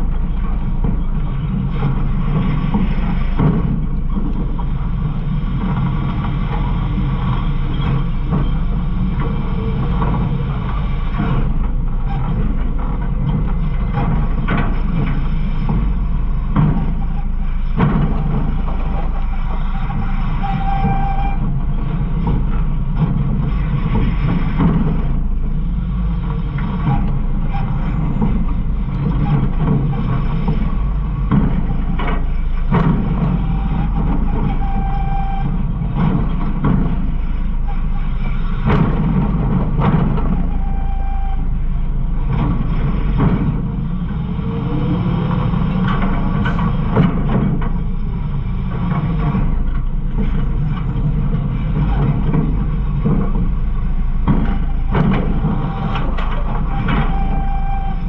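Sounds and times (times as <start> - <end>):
garbage truck engine rumble: 0.0 - 58.0
knocks and rattles: 0.0 - 58.0.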